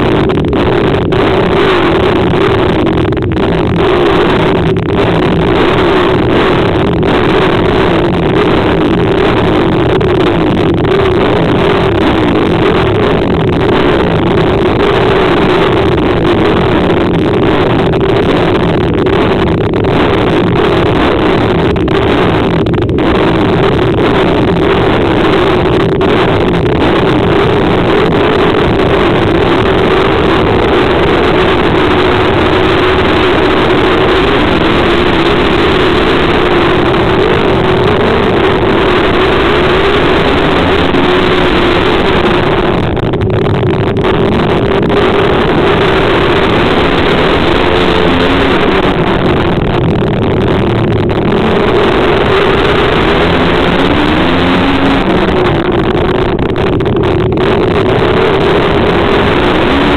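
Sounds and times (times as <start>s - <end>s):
motorcycle engines racing: 0.0s - 59.9s.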